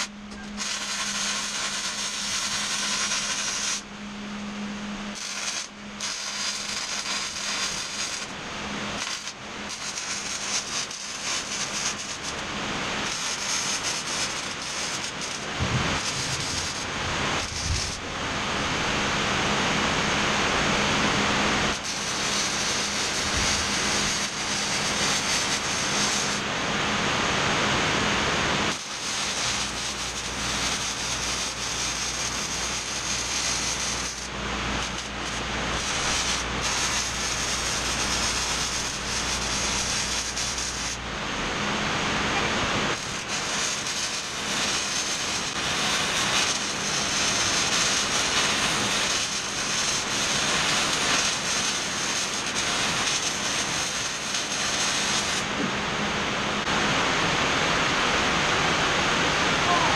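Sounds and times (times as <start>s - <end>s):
welding arc crackling: 0.0s - 56.8s
low steady hum: 0.0s - 59.9s.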